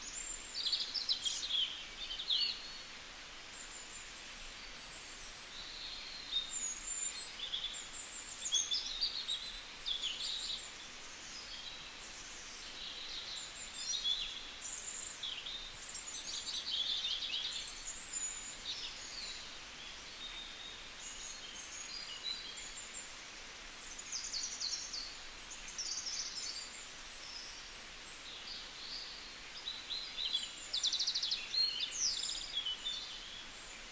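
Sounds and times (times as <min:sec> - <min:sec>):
small birds chirping: 0:00.0 - 0:33.9
steady background hiss: 0:00.0 - 0:33.9.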